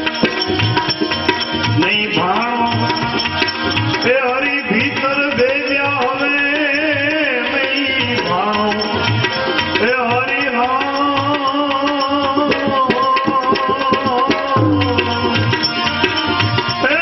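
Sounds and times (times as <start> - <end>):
tabla playing a steady rhythm: 0.0 - 17.0.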